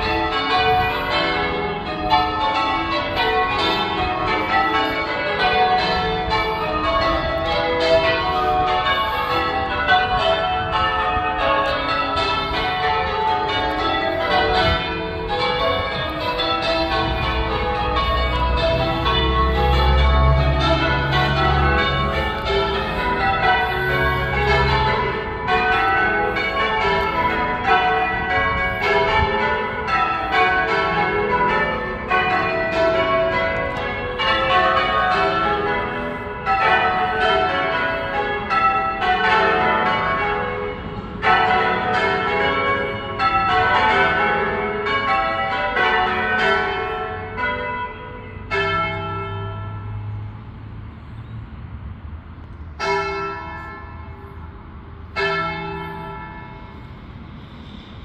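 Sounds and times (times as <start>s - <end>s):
church bells ringing: 0.0s - 51.2s, 52.3s - 58.0s.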